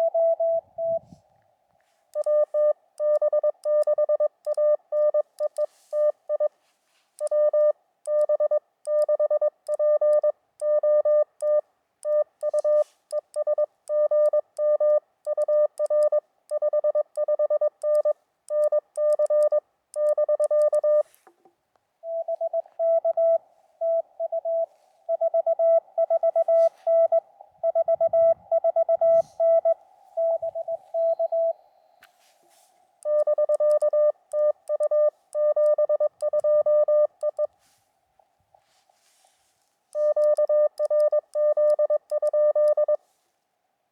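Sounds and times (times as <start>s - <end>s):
morse code sidetone: 2.2s - 6.6s, 7.2s - 21.1s, 22.1s - 31.6s, 33.0s - 37.5s, 40.0s - 43.0s.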